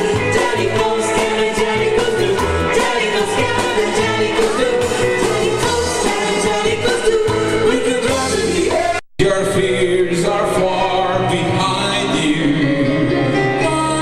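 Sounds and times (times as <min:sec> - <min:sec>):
stage show music with singing: 0:00.0 - 0:14.0.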